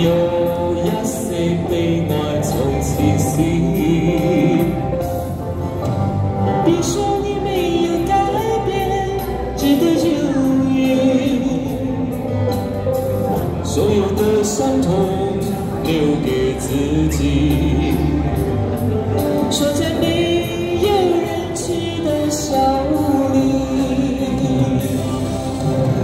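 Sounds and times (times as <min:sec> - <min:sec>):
karaoke backing track: 0:00.0 - 0:26.0.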